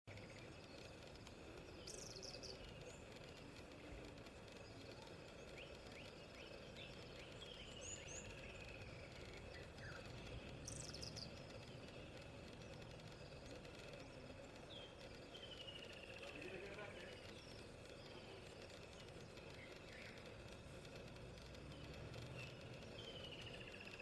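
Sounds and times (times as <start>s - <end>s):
low steady background noise: 0.1s - 24.0s.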